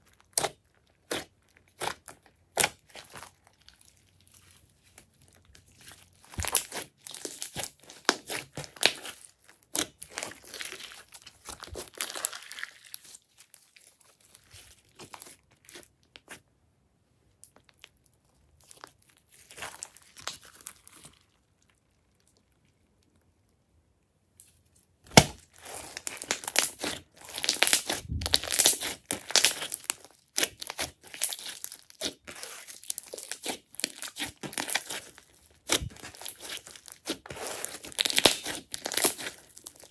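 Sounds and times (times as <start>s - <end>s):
slime crackling and popping: 0.0s - 16.4s, 17.4s - 23.6s, 25.0s - 39.9s.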